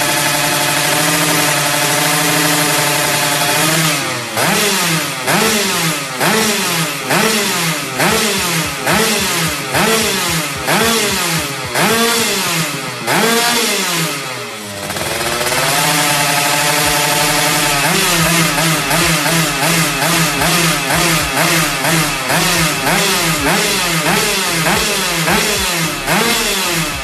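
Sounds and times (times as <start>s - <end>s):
motorcycle engine idling: 0.0s - 27.0s
two-stroke motorcycle revving: 0.0s - 27.0s.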